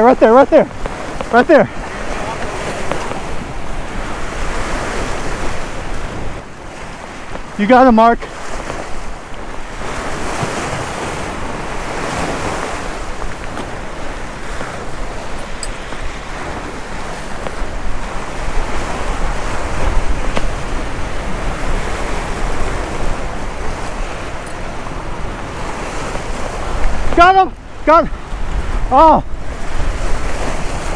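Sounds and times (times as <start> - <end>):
waves breaking against boulders: 0.0 - 30.9
wind buffeting microphone: 0.0 - 30.9.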